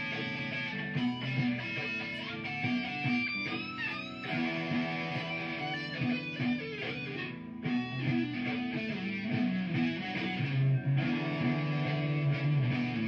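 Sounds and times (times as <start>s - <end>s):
electric guitar solo: 0.0s - 13.0s
looped guitar part: 0.0s - 13.0s.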